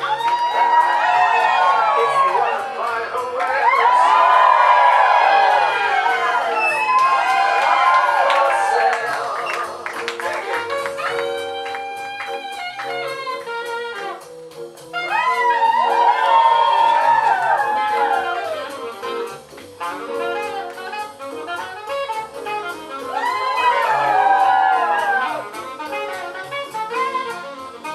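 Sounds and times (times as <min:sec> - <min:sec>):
jazz horns playing: 0:00.0 - 0:27.9.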